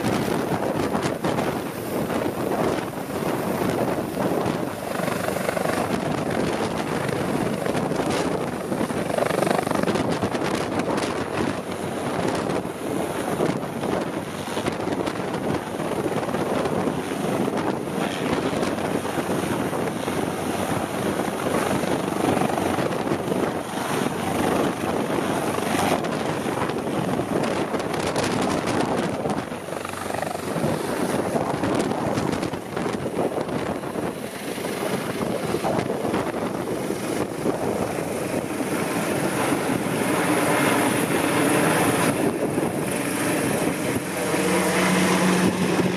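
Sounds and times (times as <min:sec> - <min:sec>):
helicopter rotor and turbine noise: 0:00.0 - 0:45.9.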